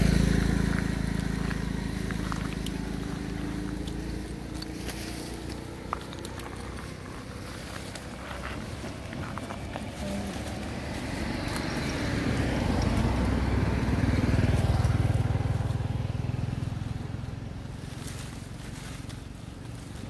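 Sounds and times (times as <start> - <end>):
vehicle passing by: 0.0 - 20.0.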